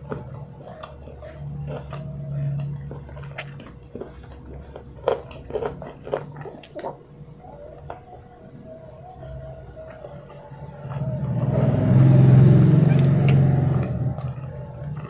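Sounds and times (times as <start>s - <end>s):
faint low hum: 0.0s - 15.0s
person chewing food: 0.0s - 15.0s.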